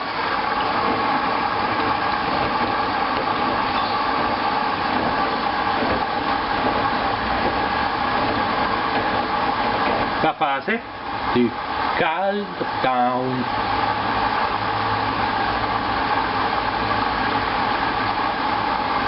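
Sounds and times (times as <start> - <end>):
washing machine whirring: 0.0 - 19.0.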